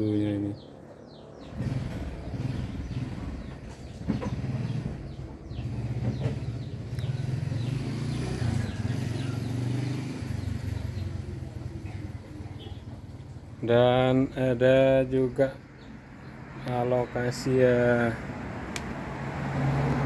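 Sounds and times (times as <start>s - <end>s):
birds chirping: 0.0s - 20.0s
vehicle engine rumbling: 0.6s - 20.0s.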